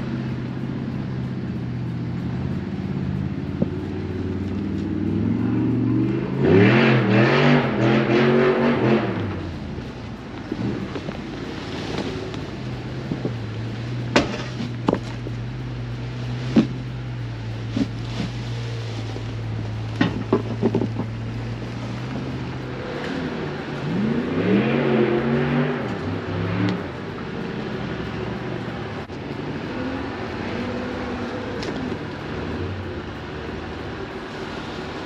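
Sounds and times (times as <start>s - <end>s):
engine running at low revs: 0.0s - 35.0s.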